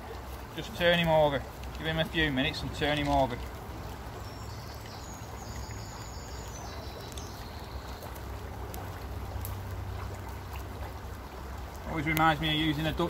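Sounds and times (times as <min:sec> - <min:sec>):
small stream rushing: 0:00.0 - 0:13.0.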